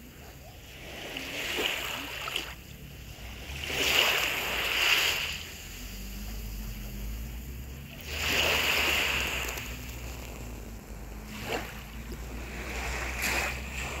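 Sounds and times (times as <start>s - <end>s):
small waves washing on sand: 0.0s - 14.0s.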